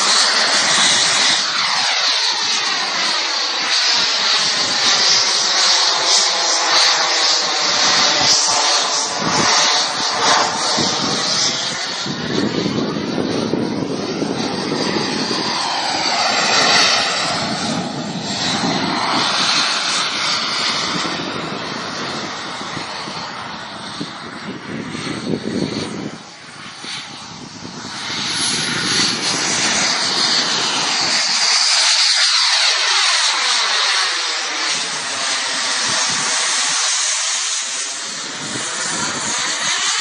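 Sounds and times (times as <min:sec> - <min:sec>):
jet fighter engine roar: 0:00.0 - 0:40.0.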